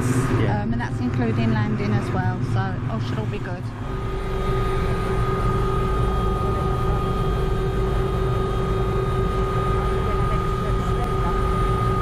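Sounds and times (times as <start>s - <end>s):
helicopter engine and rotor drone: 0.0s - 12.0s
turbine whine: 0.0s - 12.0s.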